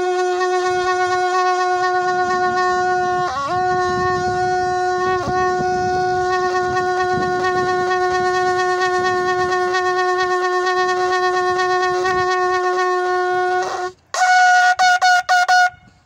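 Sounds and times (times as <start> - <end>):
hand-held horn blown: 0.0 - 16.0.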